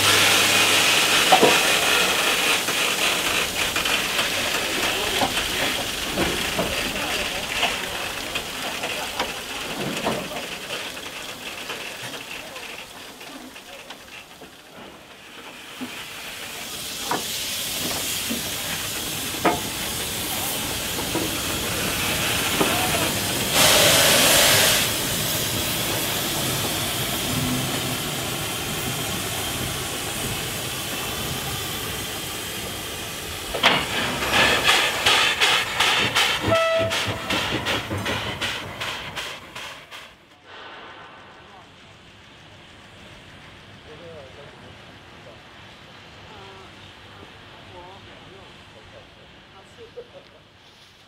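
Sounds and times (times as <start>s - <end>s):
loud blast of steam: 0.0s - 11.3s, 14.6s - 45.1s
locomotive exhaust chuffs: 0.0s - 45.0s
steam locomotive hissing: 0.0s - 51.0s.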